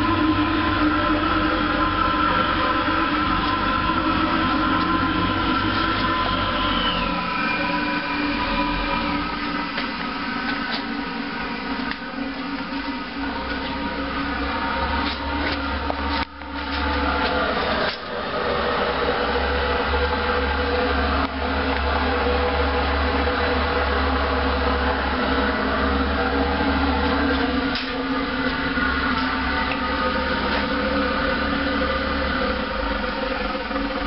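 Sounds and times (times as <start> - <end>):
machine droning hum: 0.0 - 34.0.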